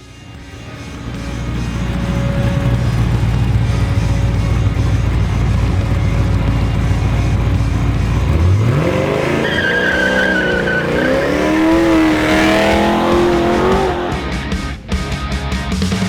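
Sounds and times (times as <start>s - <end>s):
car engine revving hard: 0.1s - 14.6s
high squeal: 0.3s - 14.3s.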